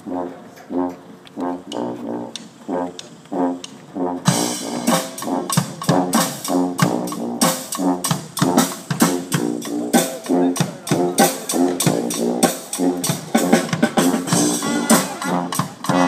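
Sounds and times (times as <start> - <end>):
brass marching band: 0.0 - 16.0
drums and cymbals: 1.7 - 16.0.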